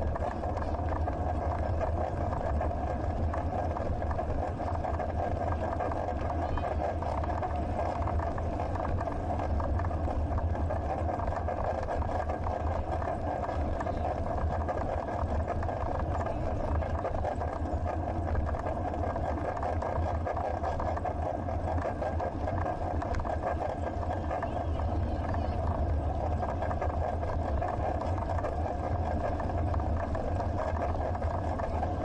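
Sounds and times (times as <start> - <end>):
bicycle rattling and clicking: 0.0 - 32.0.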